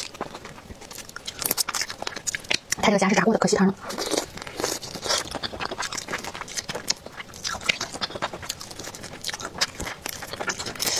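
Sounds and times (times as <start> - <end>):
chewing crunchy food: 0.0 - 10.9.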